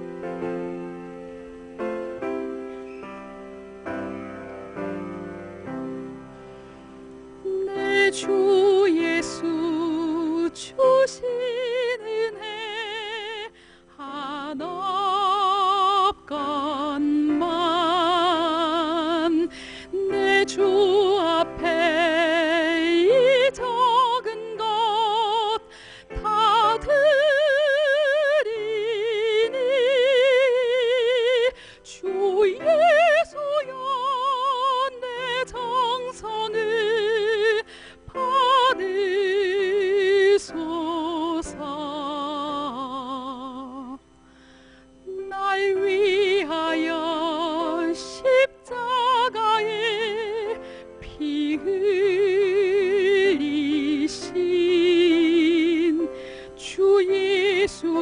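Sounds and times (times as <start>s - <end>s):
soft sustained accompaniment: 0.0s - 58.0s
woman singing a hymn: 7.4s - 44.1s, 45.0s - 58.0s.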